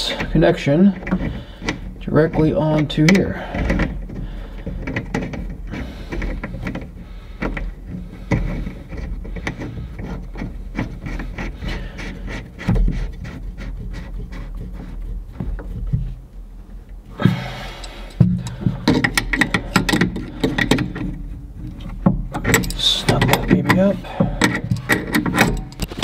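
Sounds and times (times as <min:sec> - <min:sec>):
metal nut clicking and rubbing: 0:00.0 - 0:26.0
steady low hum: 0:00.0 - 0:26.0.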